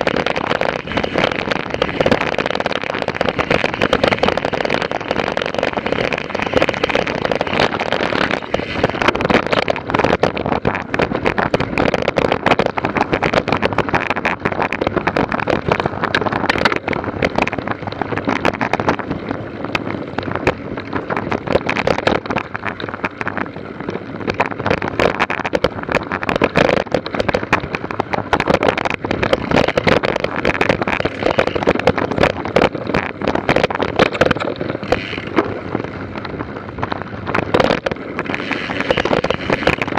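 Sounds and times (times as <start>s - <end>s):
dense rattling and crackling: 0.0s - 39.9s
wind buffeting microphone: 0.0s - 39.9s.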